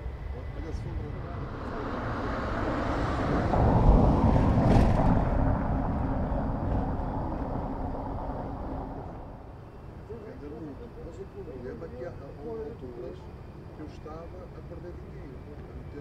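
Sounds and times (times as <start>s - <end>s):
faint steady hum: 0.0s - 16.0s
jet engines of passing airliner: 0.0s - 16.0s.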